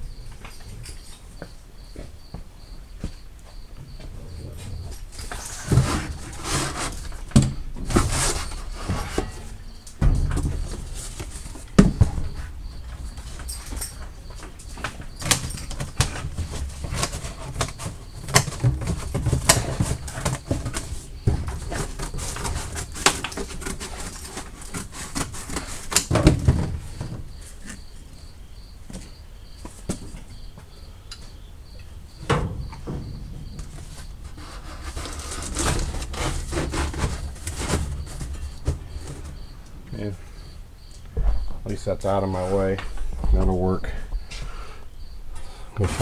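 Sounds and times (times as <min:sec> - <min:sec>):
knocks and clicks of handling: 0:04.9 - 0:28.2, 0:28.9 - 0:43.5.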